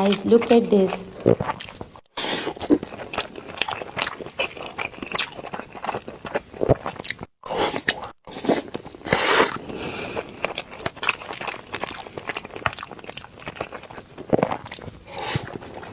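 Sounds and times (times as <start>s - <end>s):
chewing crunchy food: 0.0s - 15.9s.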